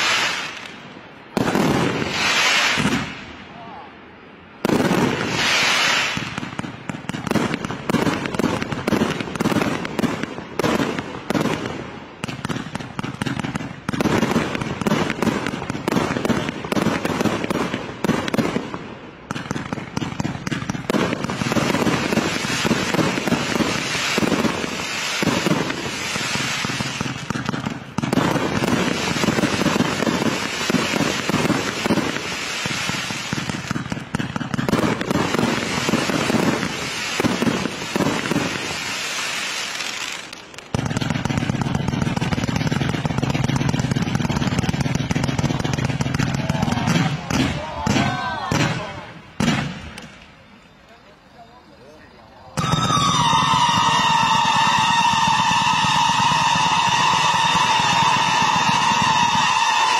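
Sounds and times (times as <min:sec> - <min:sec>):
fireworks bangs and pops: 0:00.0 - 0:03.3, 0:04.6 - 0:51.0, 0:52.5 - 0:59.9.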